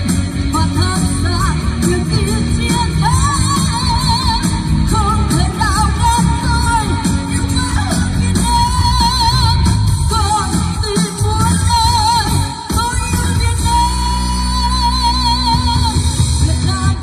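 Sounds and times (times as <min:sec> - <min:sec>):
pop band accompaniment: 0:00.0 - 0:17.0
woman singing into microphone: 0:00.1 - 0:17.0.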